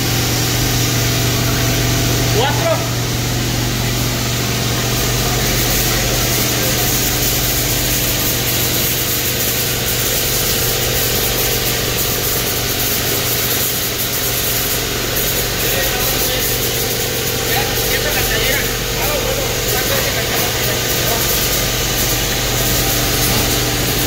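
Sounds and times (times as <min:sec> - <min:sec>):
conveyor machinery drone: 0:00.0 - 0:24.0.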